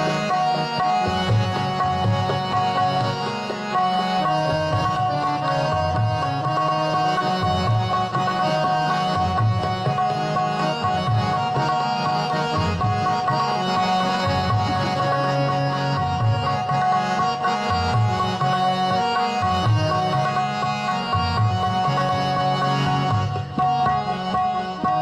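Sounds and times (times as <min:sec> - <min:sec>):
sustained melodic tones: 0:00.0 - 0:25.0.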